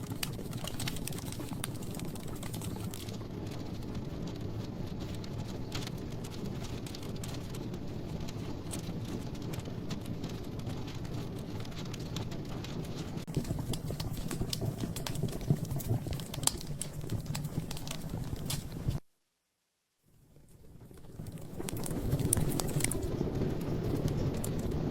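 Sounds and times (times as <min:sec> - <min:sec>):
log fire crackling: 0:00.0 - 0:19.0, 0:20.2 - 0:24.9.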